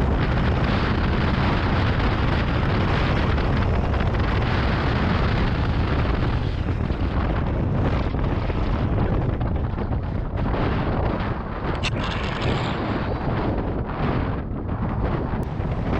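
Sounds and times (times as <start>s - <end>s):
strong wind buffeting microphone: 0.0s - 15.9s.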